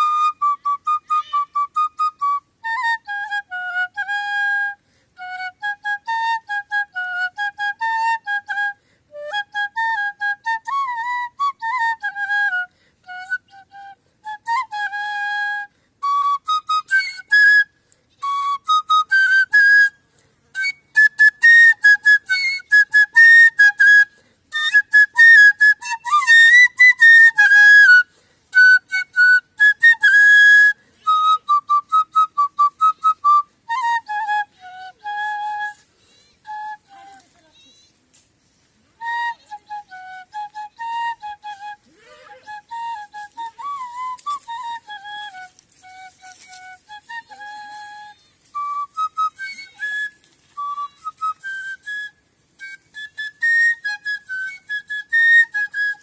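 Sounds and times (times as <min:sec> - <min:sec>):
bamboo flute melody: 0:00.0 - 0:56.0.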